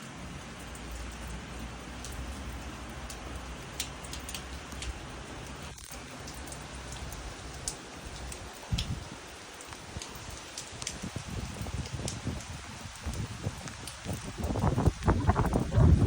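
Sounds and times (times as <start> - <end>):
rain falling: 0.0 - 16.0
sharp drips landing close: 0.4 - 16.0.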